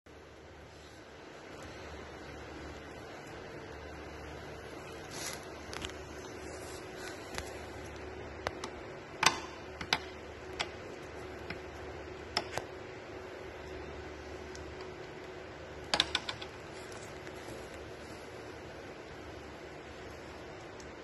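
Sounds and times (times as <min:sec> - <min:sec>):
steady hum: 0:00.1 - 0:21.0.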